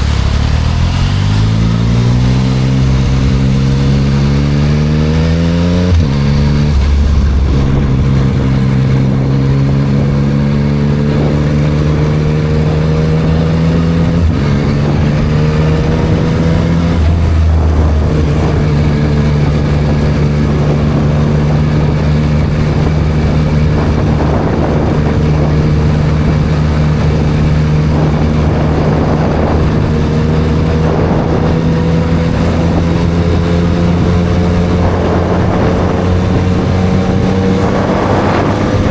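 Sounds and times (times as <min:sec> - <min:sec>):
motorcycle engine: 0:00.0 - 0:38.9
wind and road noise: 0:00.0 - 0:38.9.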